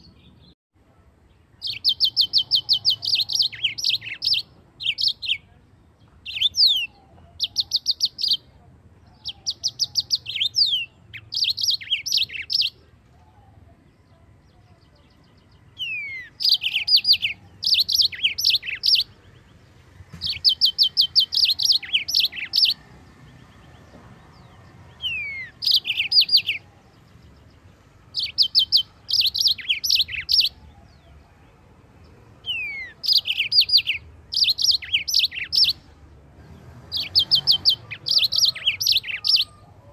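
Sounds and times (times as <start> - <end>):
canary singing: 1.3 - 39.9.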